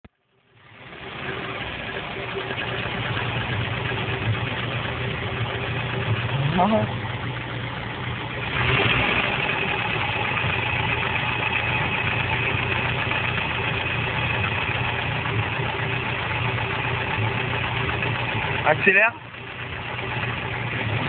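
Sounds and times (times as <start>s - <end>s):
car engine idling: 0.2s - 21.0s.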